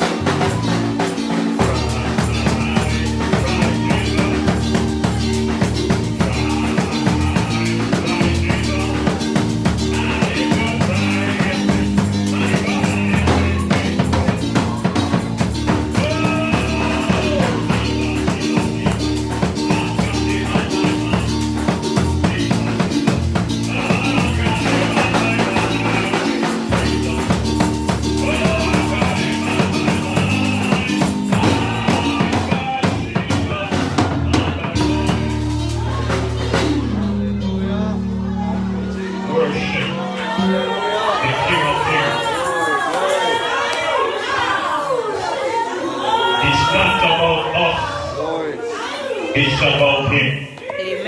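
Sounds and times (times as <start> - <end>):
band with drums bass and tambourine: 0.0 - 37.3, 40.8 - 44.6
voices singing: 0.0 - 51.0.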